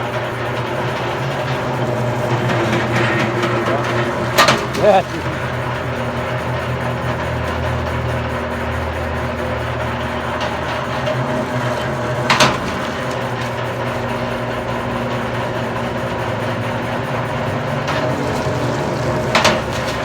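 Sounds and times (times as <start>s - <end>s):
wire stripping machine humming: 0.0s - 20.0s.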